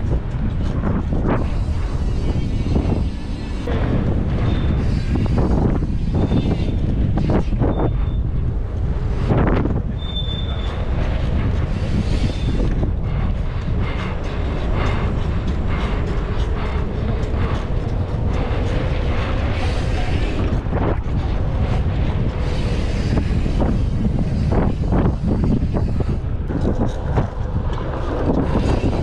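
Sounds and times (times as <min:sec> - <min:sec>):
bicycle rattles: 0:00.0 - 0:29.0
wind buffeting microphone: 0:00.0 - 0:29.0.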